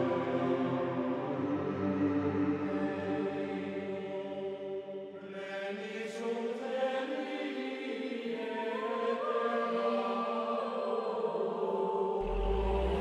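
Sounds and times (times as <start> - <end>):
choir-like held notes music: 0.0 - 13.0.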